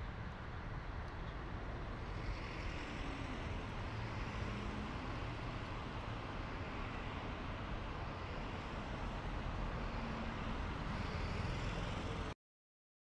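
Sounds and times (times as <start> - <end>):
city traffic rumble: 0.0 - 12.4.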